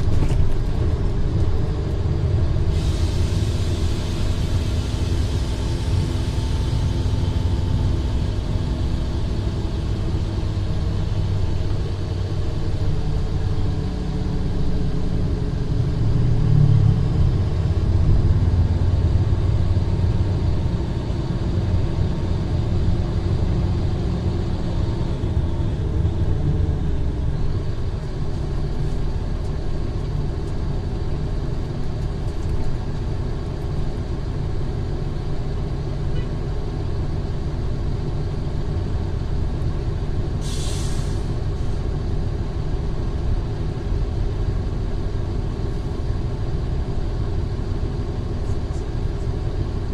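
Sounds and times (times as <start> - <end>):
bus diesel engine rumbling: 0.0 - 49.9.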